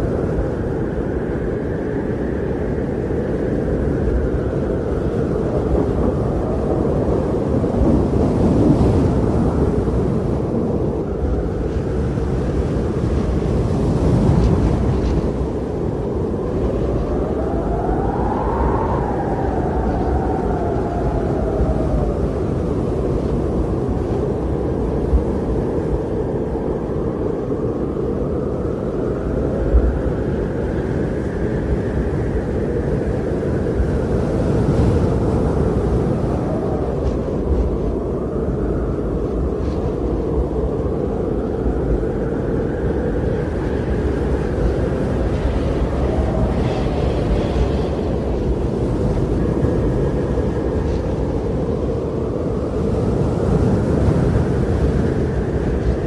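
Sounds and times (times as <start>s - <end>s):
strong blizzard wind: 0.0s - 56.0s.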